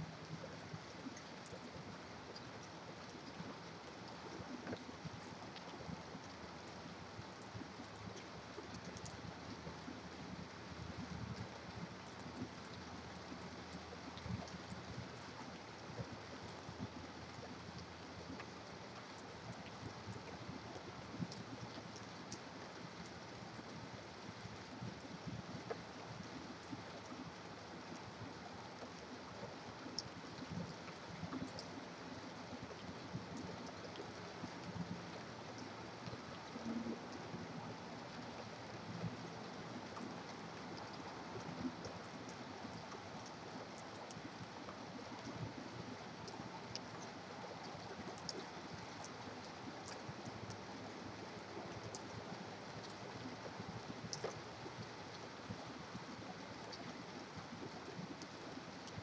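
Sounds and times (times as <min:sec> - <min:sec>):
steady rain: 0:00.0 - 0:59.0
water drip ticks: 0:00.3 - 0:59.0.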